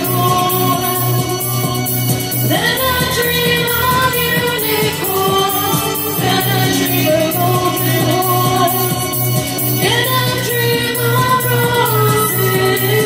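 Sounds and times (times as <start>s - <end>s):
dark-wave electronic music: 0.0s - 13.0s
woman singing into a microphone: 0.0s - 13.0s.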